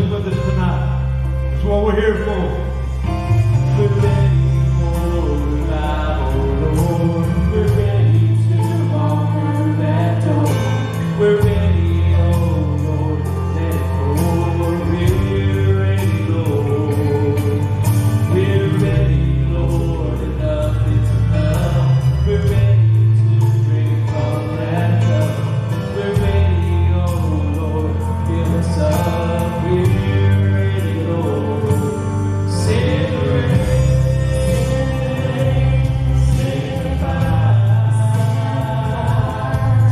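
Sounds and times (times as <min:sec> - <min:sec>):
bass line: 0:00.0 - 0:39.9
gospel group singing in harmony: 0:03.0 - 0:39.9.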